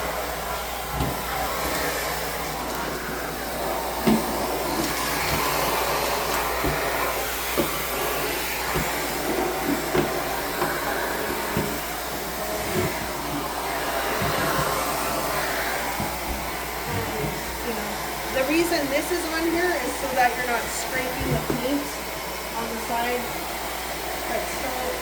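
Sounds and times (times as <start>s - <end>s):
vacuum cleaner suction: 0.0s - 25.0s.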